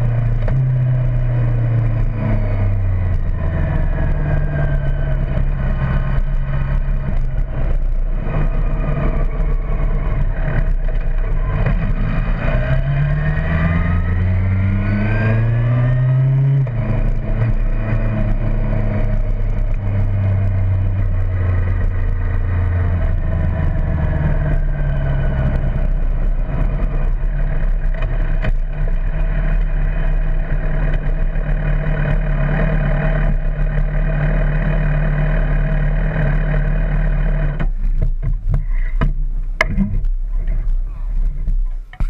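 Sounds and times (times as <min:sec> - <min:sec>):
motorcycle engine at low revs: 0:00.0 - 0:42.0.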